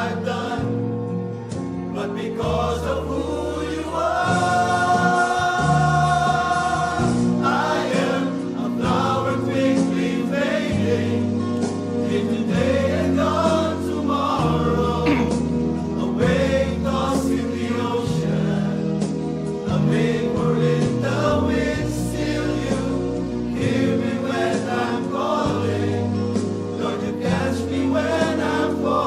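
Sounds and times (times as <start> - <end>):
male ensemble singing in harmony: 0.0 - 1.0, 1.9 - 29.0.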